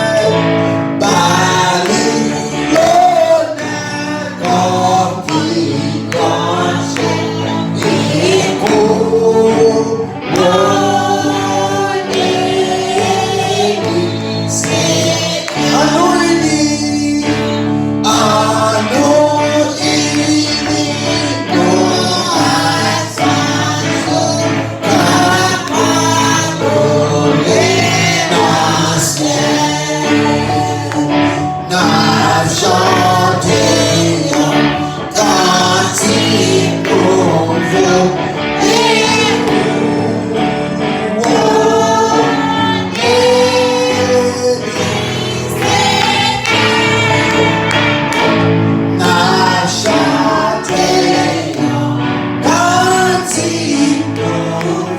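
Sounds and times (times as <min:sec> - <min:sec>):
group singing gospel: 0:00.0 - 0:54.9.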